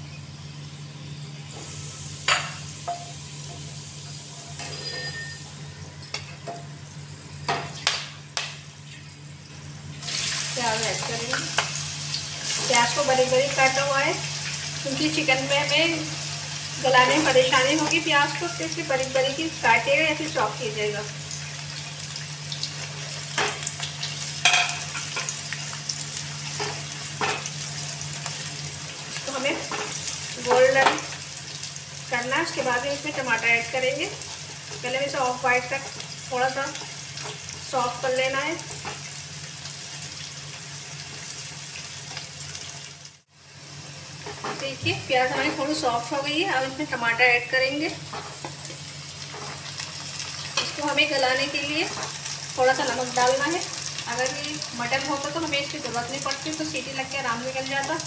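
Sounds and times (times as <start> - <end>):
spices sizzling in oil: 0.0 - 58.0.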